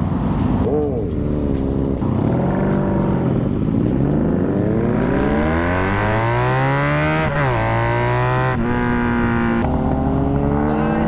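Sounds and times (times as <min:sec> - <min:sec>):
motorcycle engine accelerating: 0:00.6 - 0:11.0.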